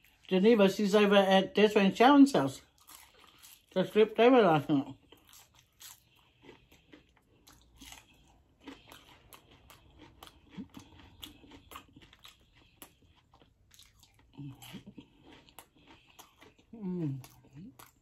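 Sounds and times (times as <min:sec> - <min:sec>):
chewing crunchy fried food: 0:00.0 - 0:00.4, 0:02.4 - 0:18.0.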